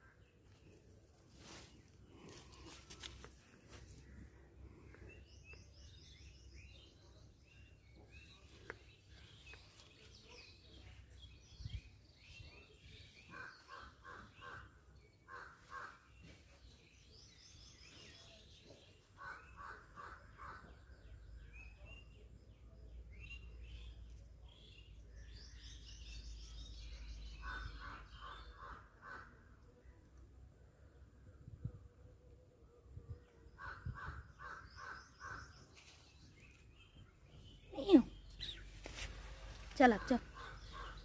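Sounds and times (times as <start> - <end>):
faint birdsong: 0.0 - 41.0.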